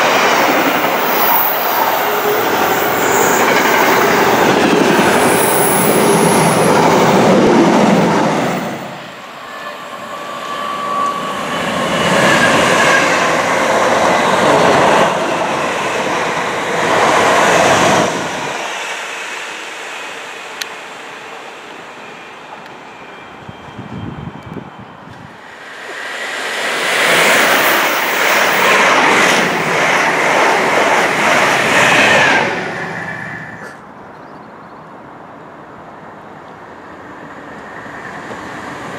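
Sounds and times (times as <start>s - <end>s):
freight train passing: 0.0s - 38.9s
passenger train passing with whines: 0.0s - 38.9s
rail noise: 0.0s - 38.9s.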